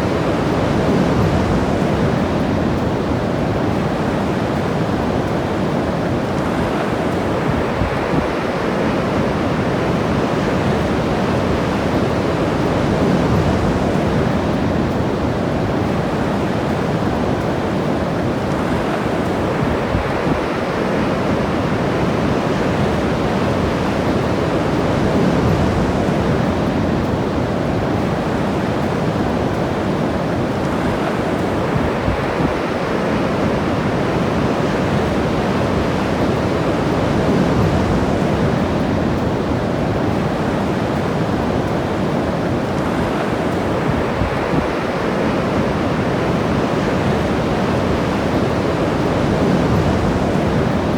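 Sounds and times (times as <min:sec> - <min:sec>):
ocean surf washing on shore: 0:00.0 - 0:50.9
wind buffeting microphone: 0:00.0 - 0:50.9.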